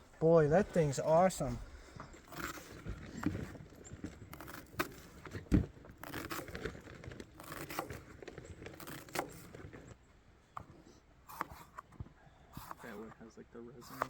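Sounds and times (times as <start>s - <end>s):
rustling and crinkling: 0.5s - 13.0s.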